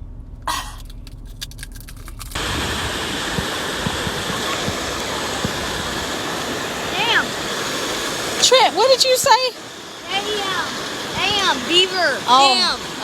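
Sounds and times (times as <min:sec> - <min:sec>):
low hum: 0:00.0 - 0:13.0
fast-flowing water rushing: 0:02.4 - 0:13.0.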